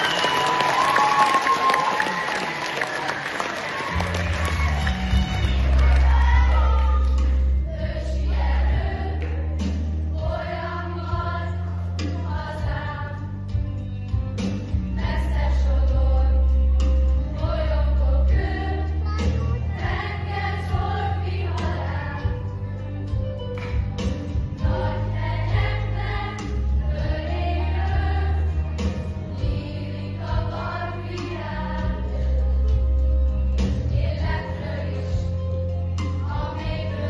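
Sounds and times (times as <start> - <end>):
children's choir singing: 3.6 - 13.6, 14.9 - 23.2, 24.0 - 37.0
pop accompaniment with heavy bass: 4.1 - 37.0.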